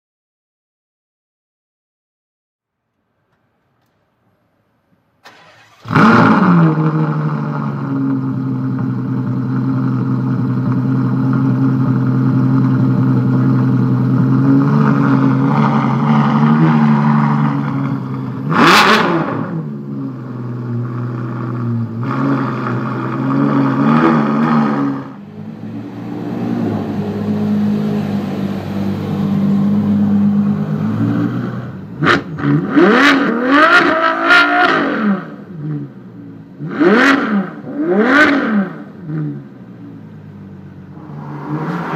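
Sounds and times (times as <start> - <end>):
sports car engine starting and idling: 3.0 - 41.9
engine revving: 5.2 - 36.0, 36.6 - 39.4, 40.9 - 41.9.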